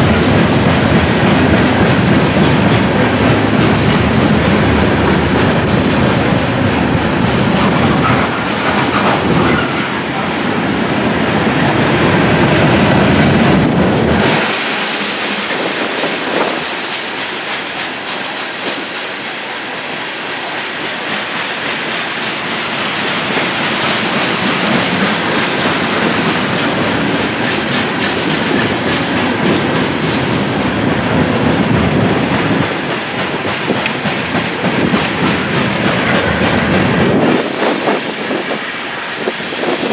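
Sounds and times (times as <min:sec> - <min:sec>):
clickety-clack over rail joints: 0:00.0 - 0:39.9
train wheels rolling on rail: 0:00.0 - 0:39.9.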